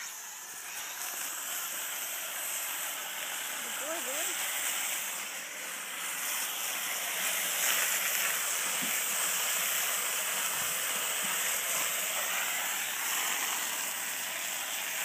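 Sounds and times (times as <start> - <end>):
hose sprayer hissing: 0.0 - 15.0.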